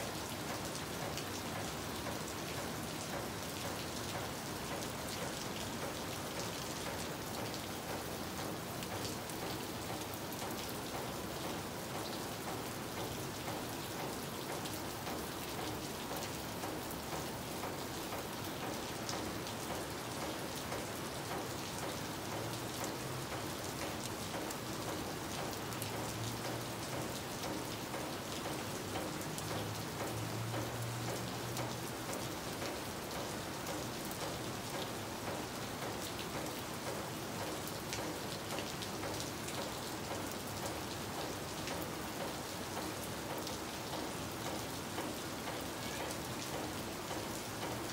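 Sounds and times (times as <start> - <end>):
steady rain: 0.0 - 47.9
water dripping off roof: 0.1 - 47.9.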